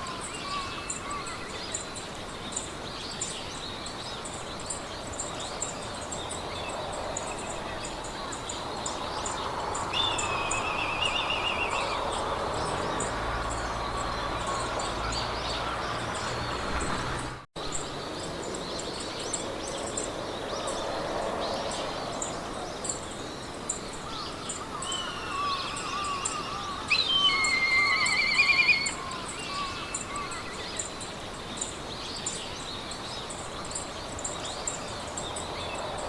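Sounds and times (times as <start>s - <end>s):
loud trilled bird song: 0.0s - 36.0s
small birds singing: 0.0s - 36.0s
wind in grass: 0.0s - 36.0s.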